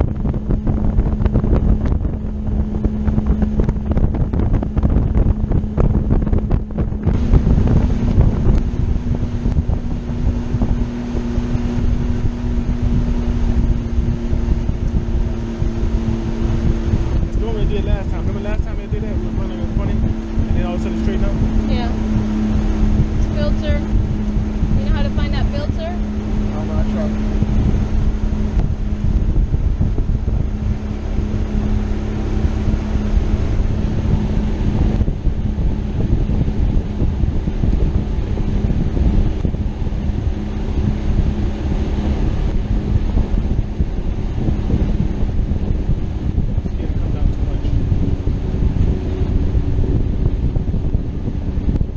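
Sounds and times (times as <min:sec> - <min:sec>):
outboard motor droning: 0:00.0 - 0:51.9
rush of wind and water: 0:00.0 - 0:51.9.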